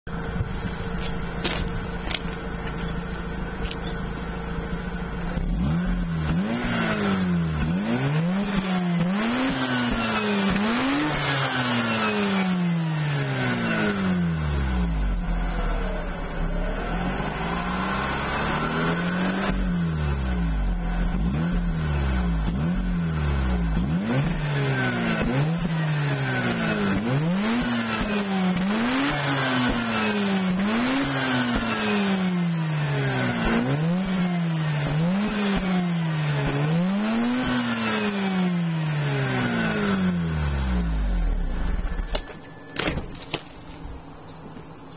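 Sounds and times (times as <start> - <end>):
rotary engine idling and revving: 0.0 - 44.9.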